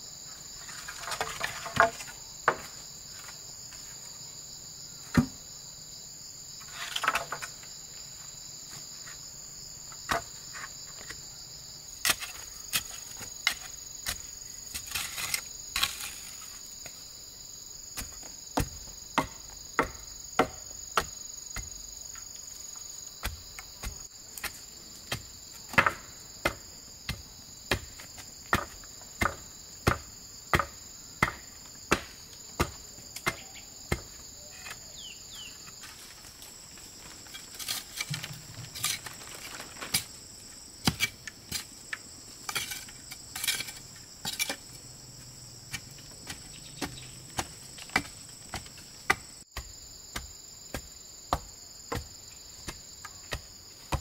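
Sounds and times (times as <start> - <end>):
crickets and insects chirping: 0.0 - 54.0.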